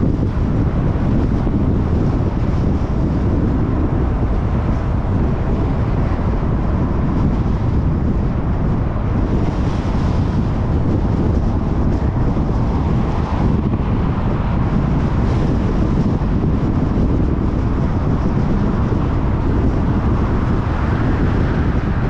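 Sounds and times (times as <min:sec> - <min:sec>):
car road and wind noise: 0:00.0 - 0:22.0
wind buffeting microphone: 0:00.0 - 0:22.0.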